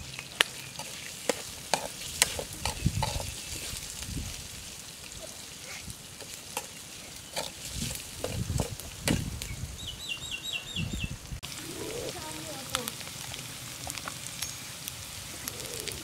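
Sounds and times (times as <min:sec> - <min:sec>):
food sizzling in wok: 0:00.0 - 0:10.0, 0:11.2 - 0:16.0.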